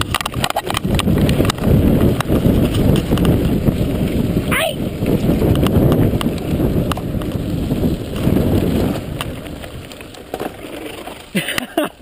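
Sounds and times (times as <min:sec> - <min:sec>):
bike clicking and rattling: 0:00.0 - 0:12.0
bike tyres rumbling on dirt: 0:00.0 - 0:12.0.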